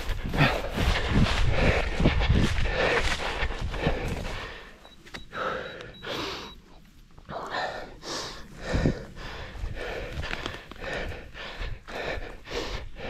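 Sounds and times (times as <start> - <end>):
hard breathing gasps: 0.0 - 6.6, 7.4 - 13.0.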